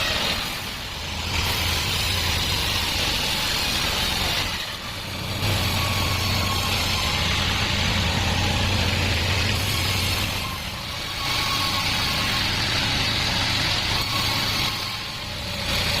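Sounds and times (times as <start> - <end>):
sawmill drive hum: 0.0 - 16.0.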